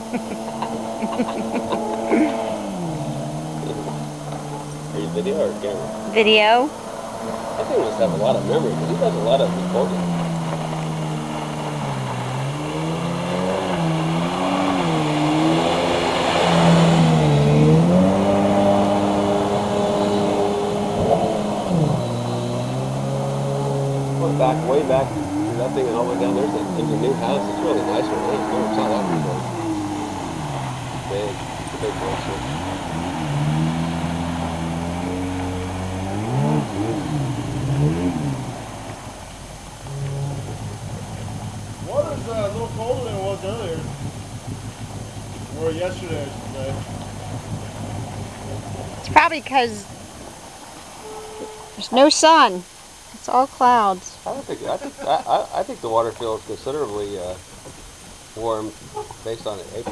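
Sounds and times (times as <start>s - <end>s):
jet ski engine revving: 0.0s - 52.5s, 53.3s - 59.9s.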